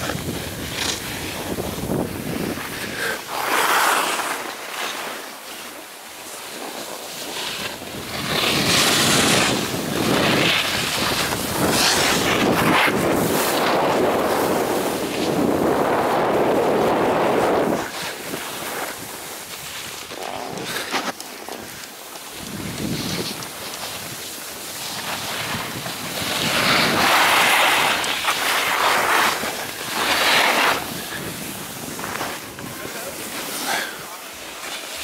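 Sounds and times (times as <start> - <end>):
wind rushing over microphone: 0.0 - 3.8, 7.7 - 20.9, 22.4 - 33.8
snowboard sliding on snow: 0.0 - 35.0.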